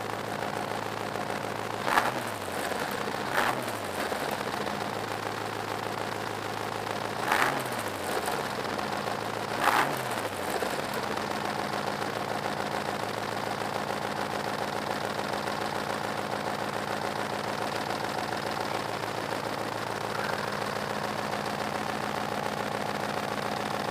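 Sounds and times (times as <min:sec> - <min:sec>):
engine idling and revving: 0:00.0 - 0:23.9.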